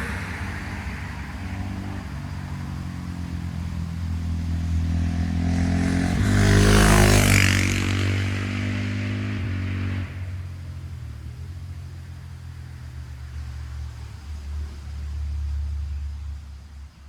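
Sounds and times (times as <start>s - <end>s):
motorcycle engine moving away: 0.0s - 14.8s.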